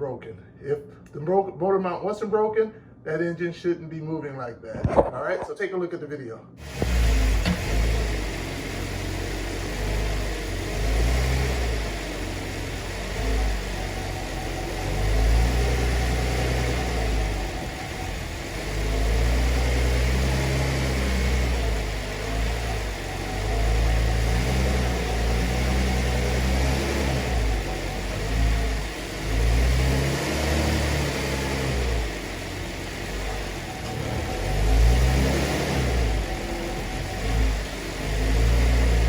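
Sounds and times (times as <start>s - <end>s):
car engine idling and revving: 6.6s - 39.0s.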